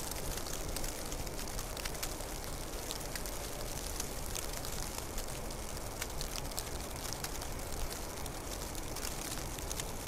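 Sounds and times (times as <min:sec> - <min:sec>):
ticks of falling snow: 0:00.0 - 0:10.0.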